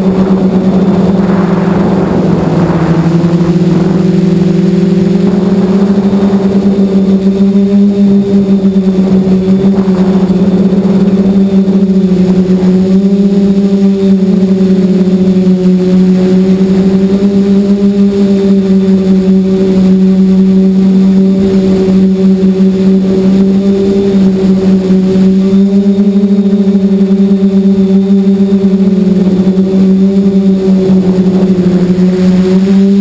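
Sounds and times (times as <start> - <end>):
drone propellers humming: 0.0 - 33.0.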